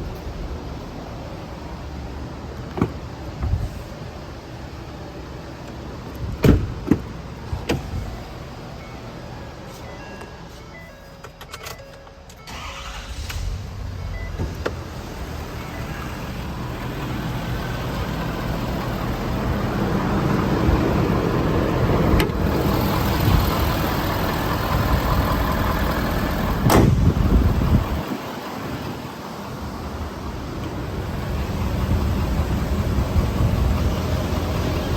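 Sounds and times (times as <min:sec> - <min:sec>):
diesel engine starting and running: 0:00.0 - 0:34.9.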